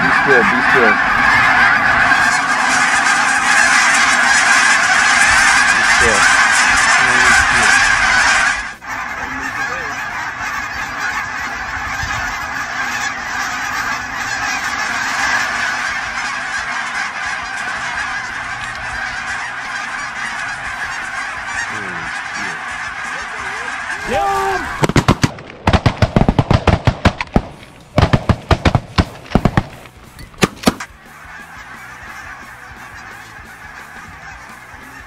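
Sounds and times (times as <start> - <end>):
flock of geese honking: 0.0 - 35.0.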